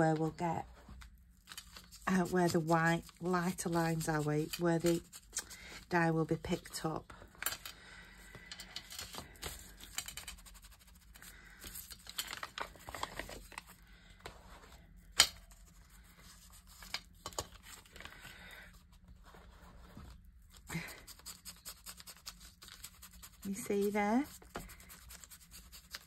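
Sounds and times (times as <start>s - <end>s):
paper rustling and crinkling: 0.7s - 5.9s, 8.8s - 14.8s, 15.4s - 26.0s.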